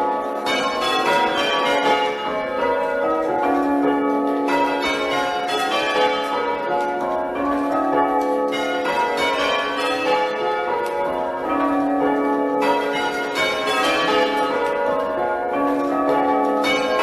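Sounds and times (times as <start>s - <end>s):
church bells ringing in sequence: 0.0s - 17.0s.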